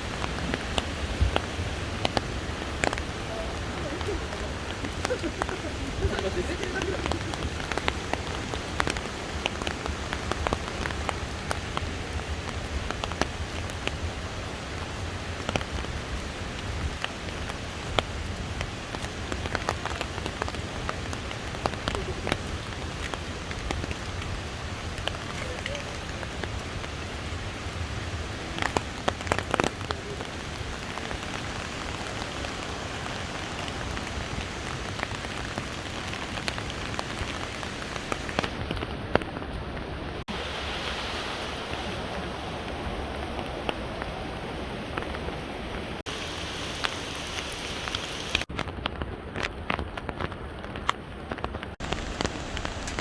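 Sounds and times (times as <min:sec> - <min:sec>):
falling water rushing: 0:00.0 - 0:48.6, 0:51.4 - 0:53.0.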